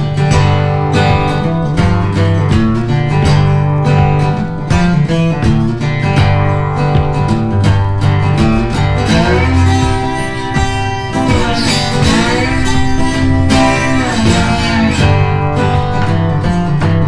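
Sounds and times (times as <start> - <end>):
acoustic guitar country music: 0.0 - 17.0.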